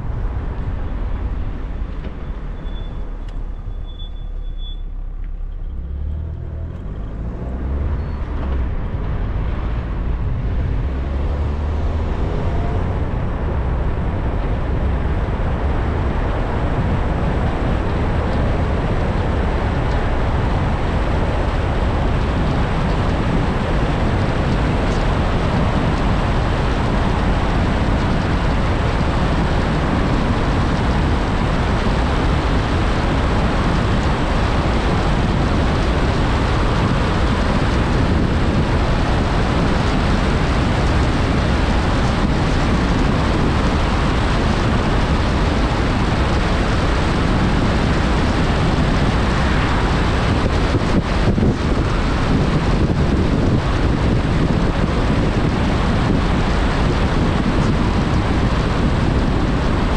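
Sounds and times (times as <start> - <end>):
car engine accelerating: 0.0 - 59.9
tyre and wind noise: 0.0 - 59.9.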